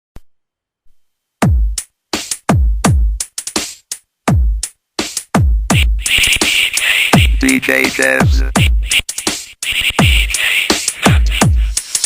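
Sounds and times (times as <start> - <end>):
electronic dance music kick drums: 1.4 - 3.7, 4.3 - 12.0.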